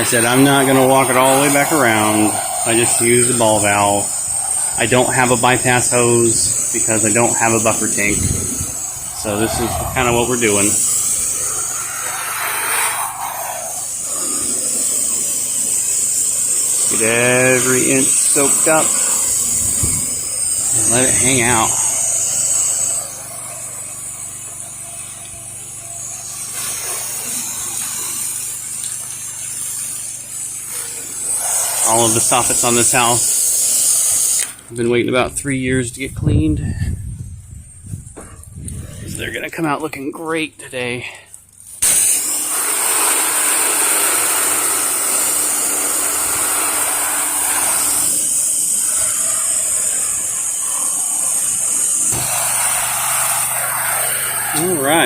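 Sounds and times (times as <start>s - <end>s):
hiss of water spray: 0.0s - 34.6s, 41.7s - 55.0s
pressure washer running: 0.0s - 34.9s, 41.2s - 55.0s.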